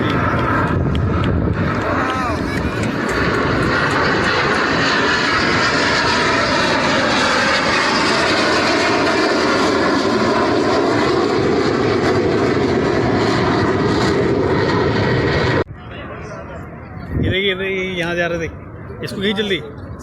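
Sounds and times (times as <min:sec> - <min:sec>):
aircraft engines flying overhead: 0:00.0 - 0:20.0.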